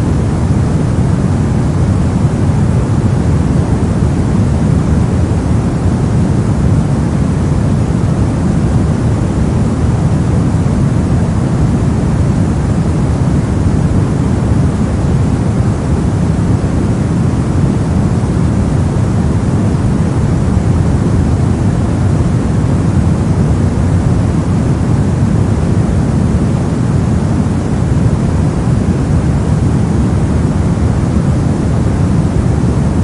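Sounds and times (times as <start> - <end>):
brown noise rumbling hiss: 0.0 - 33.0.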